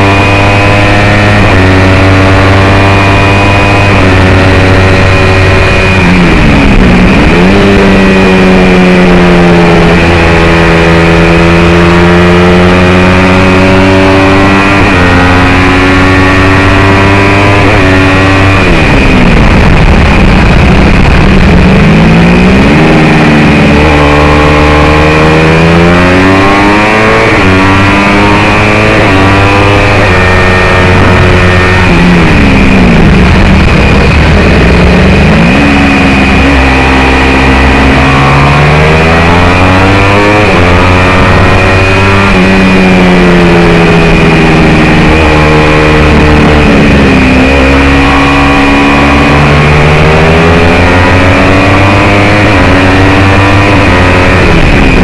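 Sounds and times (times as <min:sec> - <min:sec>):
motorcycle engine at full throttle: 0:00.0 - 0:55.0
wind noise on microphone: 0:00.0 - 0:55.0.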